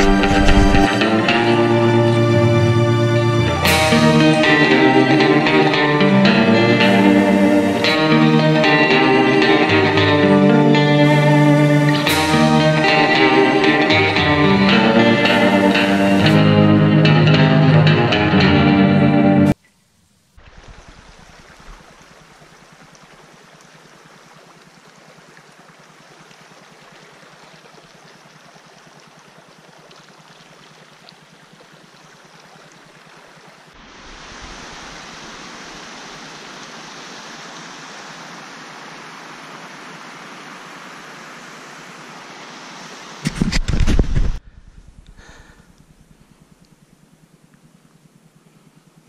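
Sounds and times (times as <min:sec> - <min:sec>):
stream water rushing: 0:00.0 - 0:18.5, 0:20.4 - 0:44.4.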